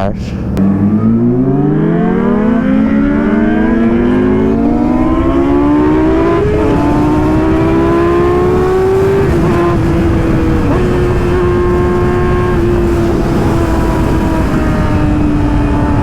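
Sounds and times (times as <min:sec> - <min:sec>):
engine accelerating and shifting gear: 0:00.5 - 0:16.0.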